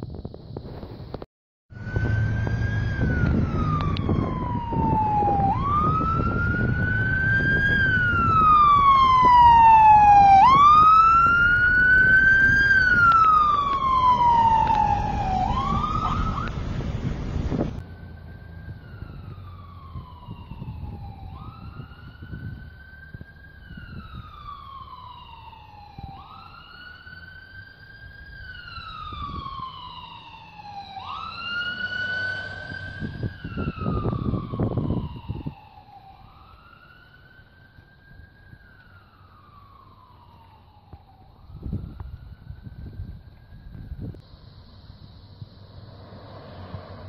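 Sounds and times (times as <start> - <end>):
emergency siren wailing: 1.7 - 47.0.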